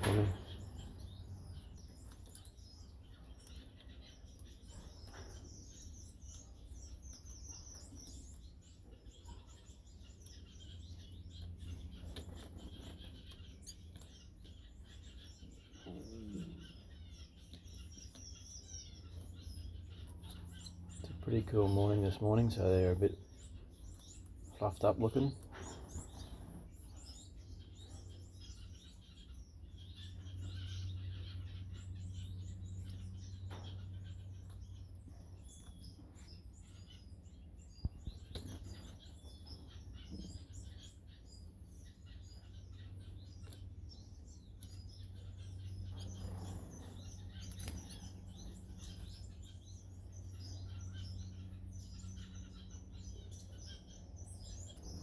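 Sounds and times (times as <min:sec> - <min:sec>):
finches chirping: 0:00.0 - 0:55.0.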